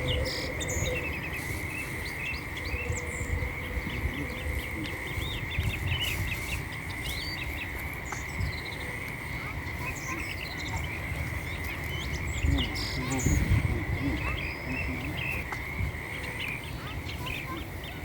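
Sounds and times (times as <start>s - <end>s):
insect droning: 0.0s - 18.0s.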